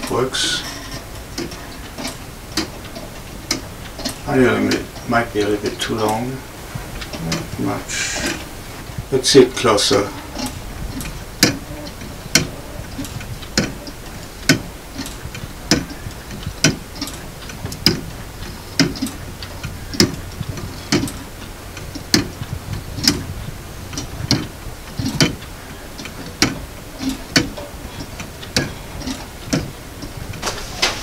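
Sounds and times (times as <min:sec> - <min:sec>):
faint clock clicks: 0:00.0 - 0:31.0
pendulum clock ticking: 0:00.0 - 0:31.0.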